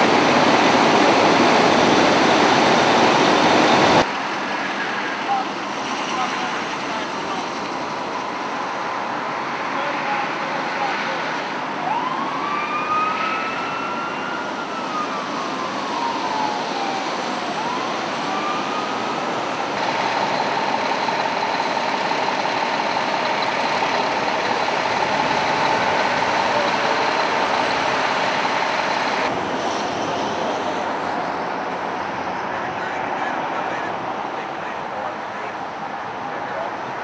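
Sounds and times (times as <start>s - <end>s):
emergency siren wailing: 0.0s - 37.0s
highway traffic noise: 0.0s - 37.0s.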